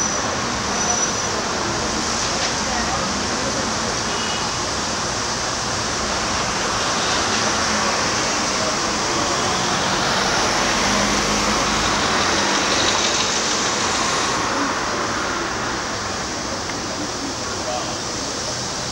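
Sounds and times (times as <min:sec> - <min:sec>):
cars passing on city street: 0:00.0 - 0:18.9.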